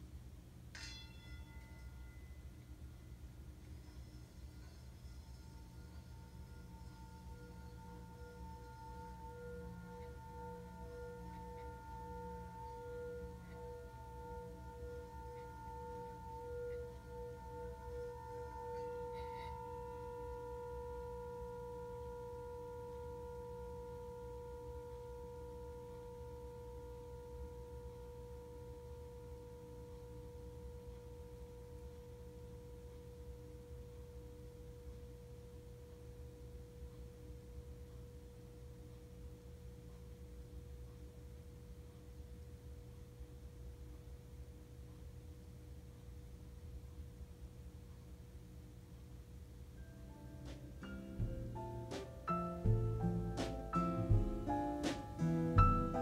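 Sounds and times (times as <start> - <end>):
singing bowl humming: 0.7 - 46.2.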